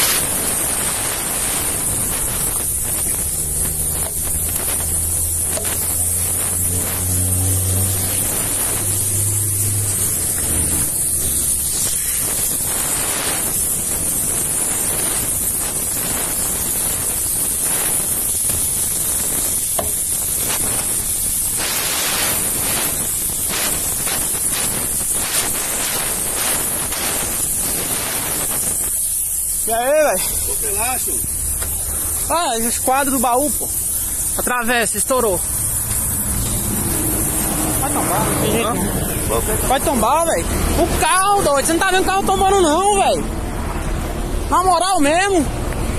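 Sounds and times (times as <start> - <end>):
air hissing out of tyres: 0.0 - 45.9.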